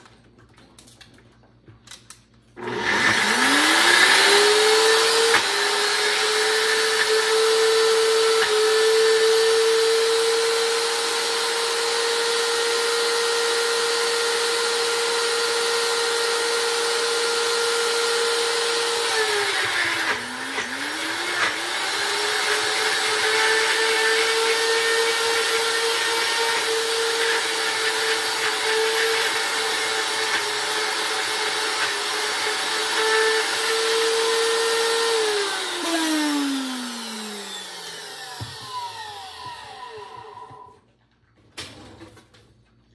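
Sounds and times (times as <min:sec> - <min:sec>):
blender motor humming: 0:02.6 - 0:40.8.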